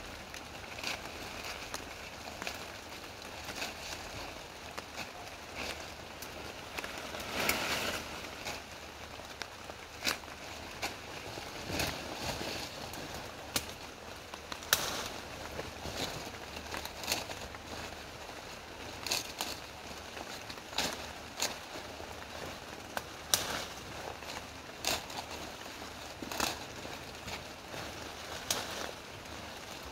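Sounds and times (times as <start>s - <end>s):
leafy branches rustling: 0.0s - 29.9s
rain hissing: 0.0s - 29.9s
stems snapping: 0.2s - 11.0s, 12.9s - 17.6s, 18.9s - 29.9s.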